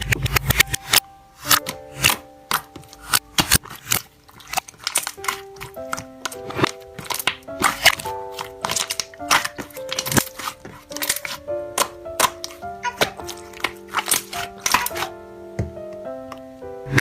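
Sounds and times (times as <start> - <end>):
slime crackling and popping: 0.0 - 15.2
background music of held notes: 0.0 - 17.0.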